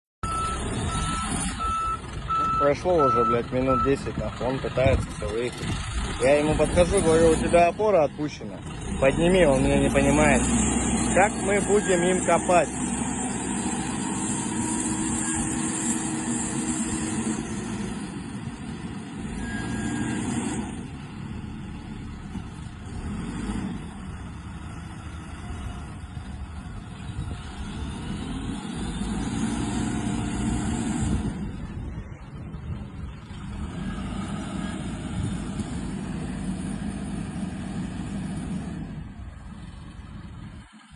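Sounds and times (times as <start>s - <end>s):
excavator diesel engine revving: 0.2s - 40.9s.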